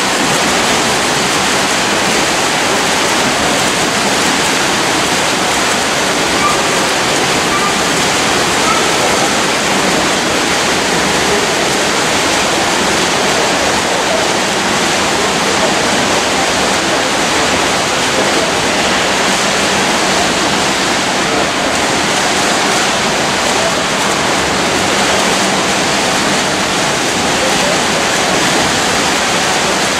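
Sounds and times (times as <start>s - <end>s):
swimmers splashing: 0.0s - 29.9s.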